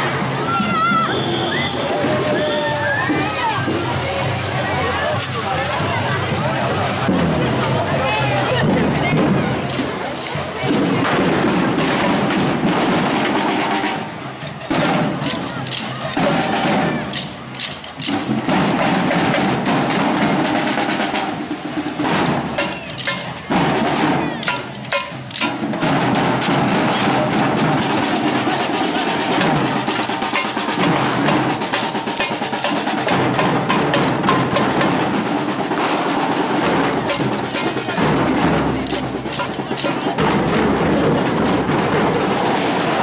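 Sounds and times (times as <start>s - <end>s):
samba drum group playing: 0.0s - 43.0s
snare drums rolling: 0.0s - 43.0s.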